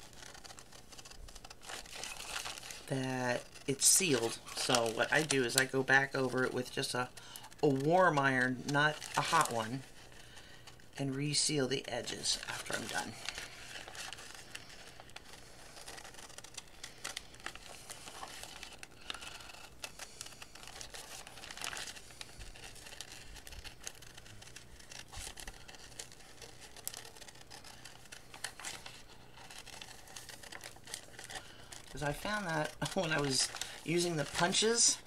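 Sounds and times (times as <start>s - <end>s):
scissors snipping paper: 0.0s - 10.0s, 12.3s - 35.0s
stiff paper crinkling: 0.0s - 35.0s.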